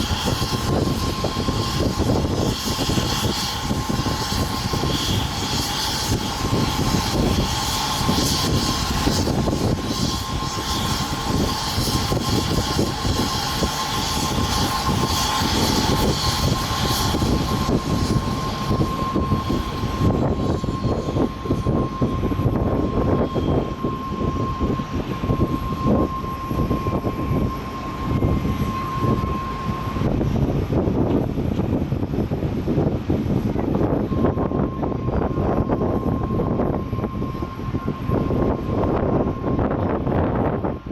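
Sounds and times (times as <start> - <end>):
high jet engine whine: 0.0 - 40.9
jet engines rumbling: 0.0 - 40.9.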